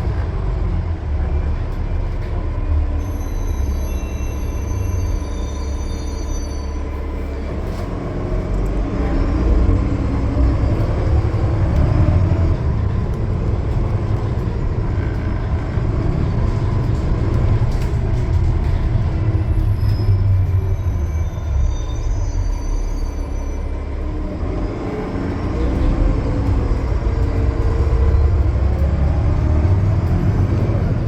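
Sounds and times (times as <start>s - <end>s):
bus diesel engine rumble: 0.0s - 31.0s
road noise: 0.0s - 31.0s.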